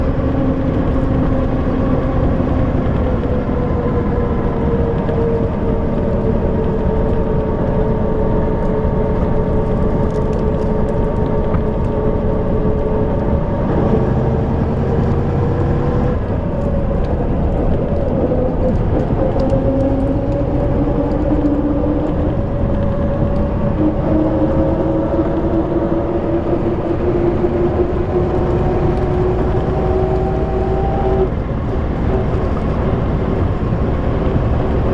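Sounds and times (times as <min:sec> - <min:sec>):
diesel bus engine drone: 0:00.0 - 0:34.9.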